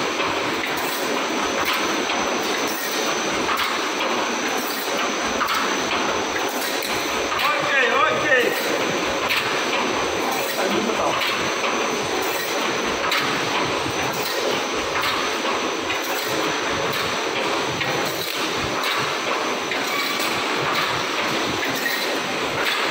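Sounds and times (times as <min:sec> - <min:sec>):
welding machine clattering: 0:00.0 - 0:22.9.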